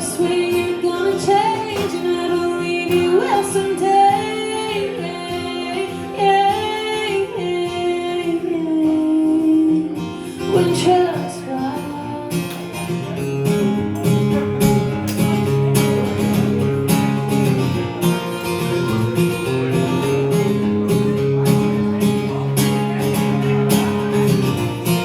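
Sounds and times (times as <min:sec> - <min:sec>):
strummed guitar chords: 0:00.0 - 0:25.0.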